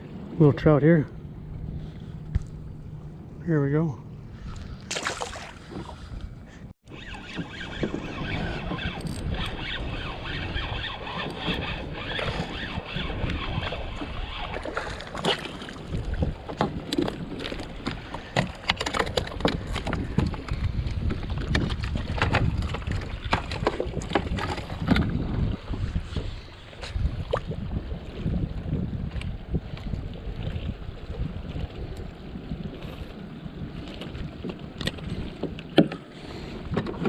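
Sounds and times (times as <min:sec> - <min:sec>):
wind buffeting microphone: 0:00.0 - 0:37.0
water slapping hull: 0:04.2 - 0:37.0.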